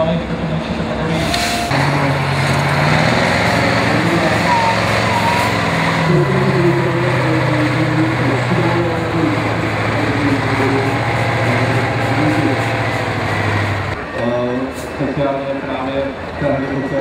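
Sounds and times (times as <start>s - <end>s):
diesel truck engine under load: 0.5s - 17.0s.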